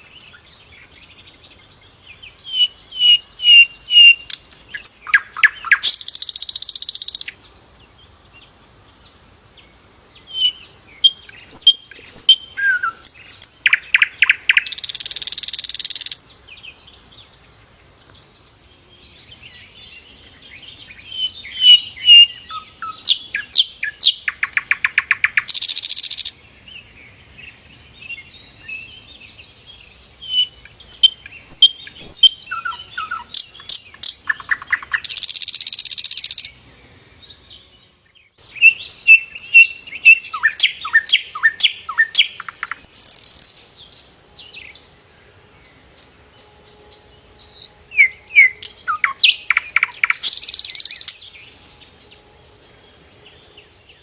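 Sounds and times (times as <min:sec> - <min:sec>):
flycatcher singing: 0:00.0 - 0:09.0, 0:10.2 - 0:17.4, 0:18.1 - 0:26.8, 0:27.4 - 0:36.6, 0:37.2 - 0:54.0.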